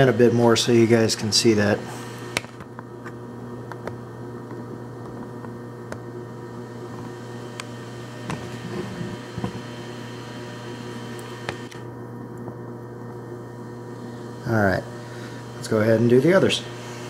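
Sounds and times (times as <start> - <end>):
milling machine motor hum: 0.0 - 17.0.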